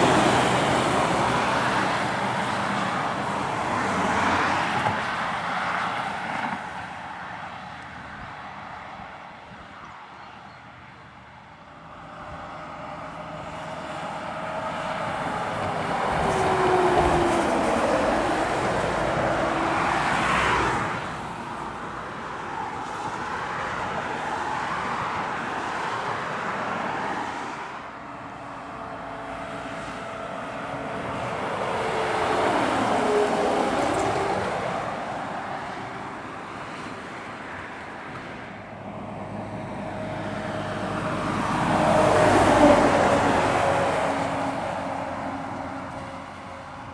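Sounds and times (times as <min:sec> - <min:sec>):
heavy trucks climbing and passing: 0:00.0 - 0:46.9.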